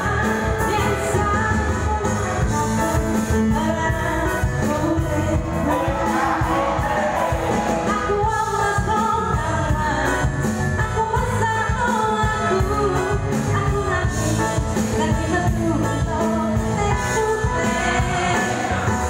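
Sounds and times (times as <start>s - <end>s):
live rock band playing: 0.0s - 19.0s
woman singing into microphone: 0.0s - 19.0s.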